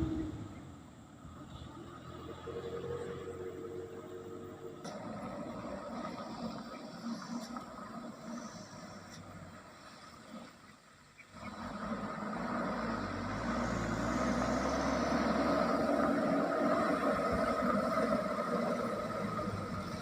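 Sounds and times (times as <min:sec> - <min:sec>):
truck engine running: 0:00.0 - 0:09.9, 0:11.1 - 0:20.0.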